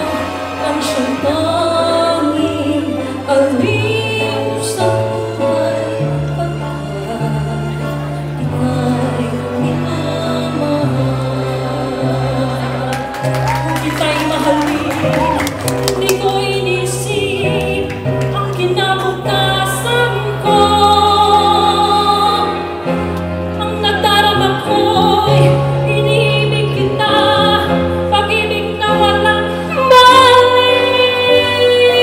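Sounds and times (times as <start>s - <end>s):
instrumental backing music: 0.0s - 32.0s
woman singing into a microphone: 0.0s - 32.0s.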